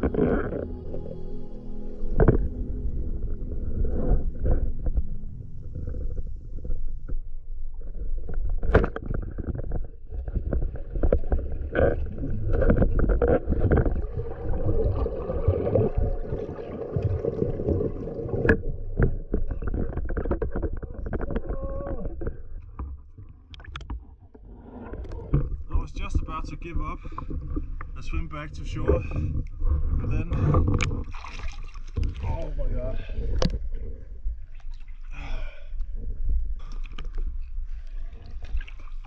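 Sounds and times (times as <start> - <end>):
underwater rumble and bubbling: 0.0 - 39.0.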